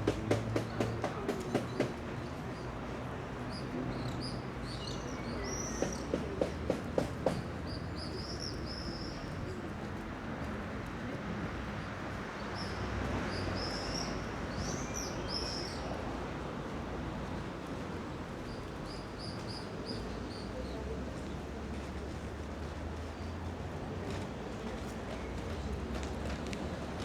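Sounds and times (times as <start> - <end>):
low street background noise: 0.0 - 27.0.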